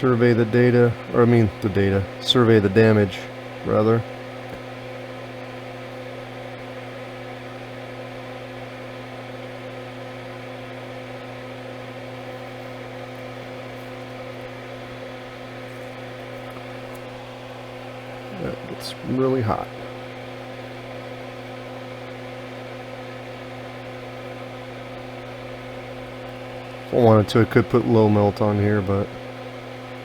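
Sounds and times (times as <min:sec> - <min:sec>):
equipment humming: 0:00.0 - 0:30.0.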